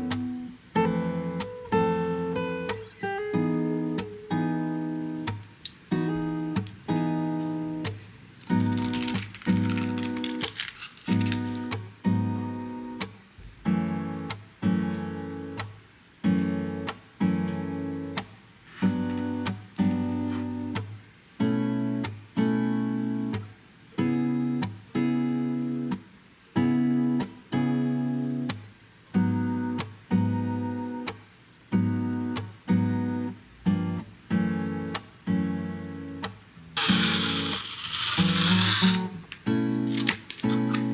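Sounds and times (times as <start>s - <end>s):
plucked acoustic guitar: 0.0s - 10.4s, 11.1s - 40.9s.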